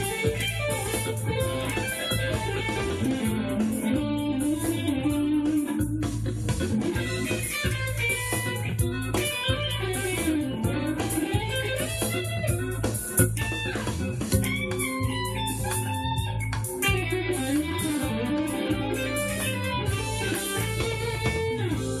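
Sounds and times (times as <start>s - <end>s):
crunchy electric guitar lead: 0.0s - 22.0s
low bass notes: 0.0s - 22.0s.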